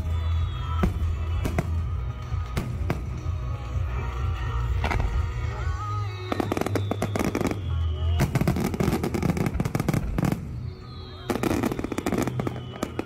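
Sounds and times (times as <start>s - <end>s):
fireworks crackling bangs: 0.0s - 13.0s
music: 0.0s - 13.0s.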